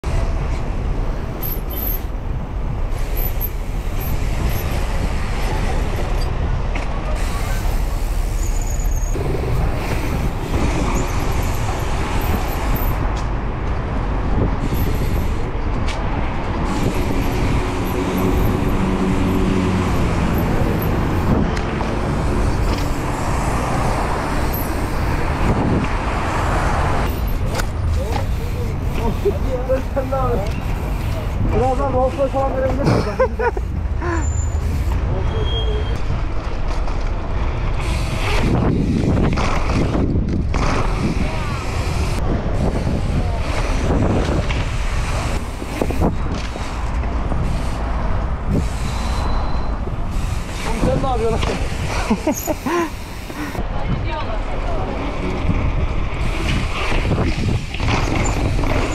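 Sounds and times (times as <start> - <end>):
city traffic: 0.0 - 58.9
wind on microphone: 9.1 - 58.9.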